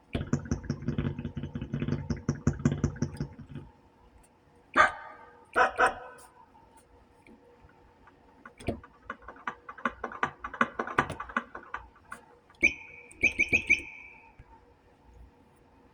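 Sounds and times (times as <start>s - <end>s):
irregular electronic clicks and taps: 0.0s - 15.3s.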